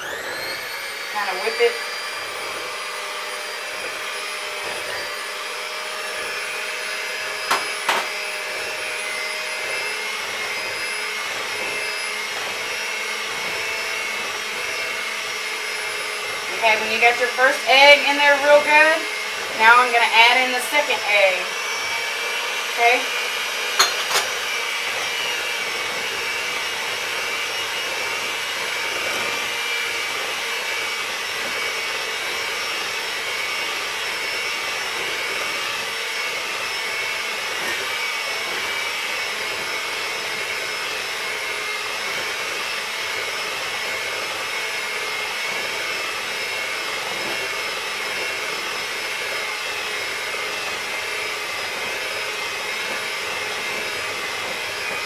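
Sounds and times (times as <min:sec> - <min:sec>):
electric hand mixer whining: 0:00.0 - 0:55.0.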